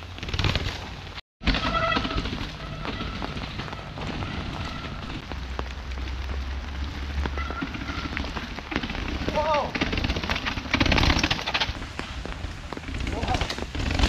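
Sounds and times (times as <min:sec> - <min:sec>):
light rain pattering: 0:02.3 - 0:14.0.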